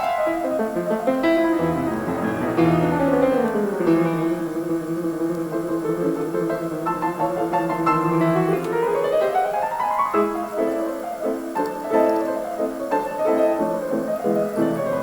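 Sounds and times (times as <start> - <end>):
piano playing quick runs: 0.0 - 15.0.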